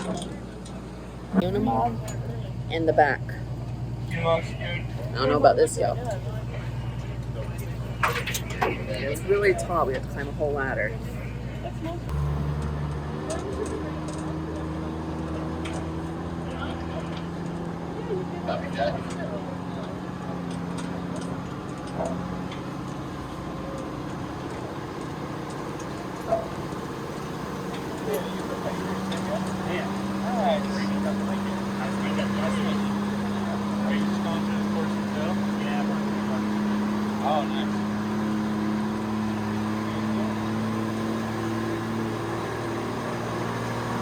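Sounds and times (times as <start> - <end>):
truck engine and road noise: 0.0 - 44.0.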